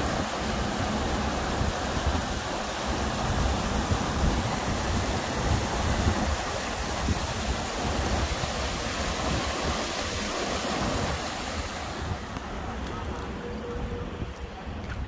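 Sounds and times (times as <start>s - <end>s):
flood water rushing: 0.0s - 15.0s.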